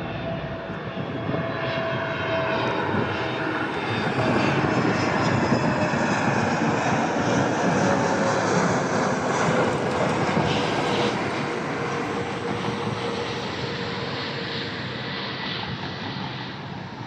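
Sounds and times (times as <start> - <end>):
airliner engine rush: 0.0 - 17.0.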